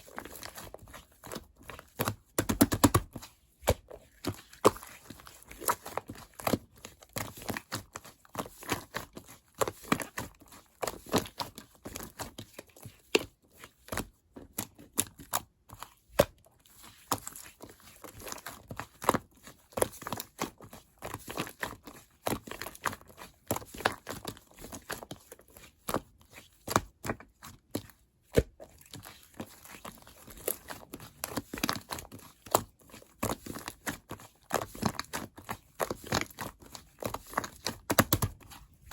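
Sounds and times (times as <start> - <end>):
slime squishing with sticky pops: 0.0 - 38.9.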